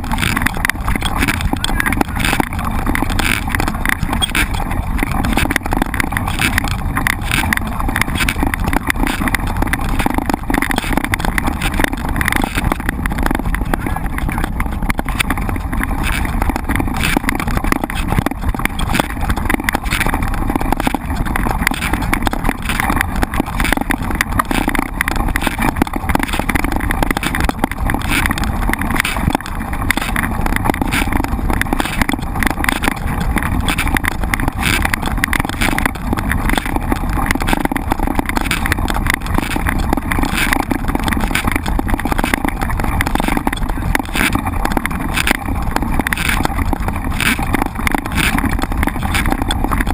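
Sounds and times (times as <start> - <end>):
bike rattling and knocking: 0.0 - 49.9
bike rolling over rough ground: 0.0 - 49.9.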